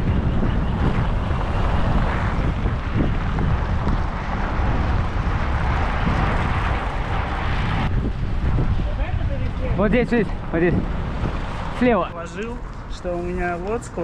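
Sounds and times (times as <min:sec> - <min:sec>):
street traffic: 0:00.0 - 0:14.0
wind rumble on microphone: 0:00.0 - 0:14.0.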